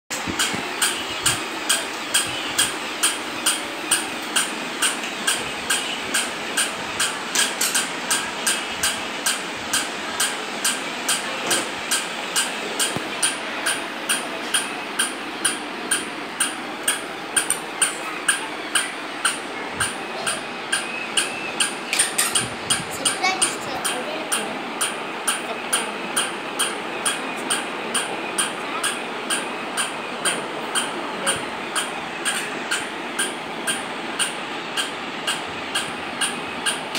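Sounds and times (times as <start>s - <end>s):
sharp mechanical click: 0.4s - 36.9s.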